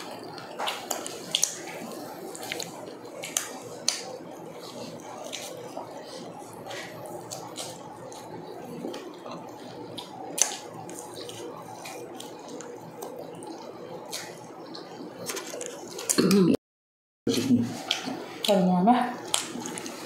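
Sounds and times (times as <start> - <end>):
wet chewing and lip-smacking: 0.0 - 16.2, 19.2 - 20.0.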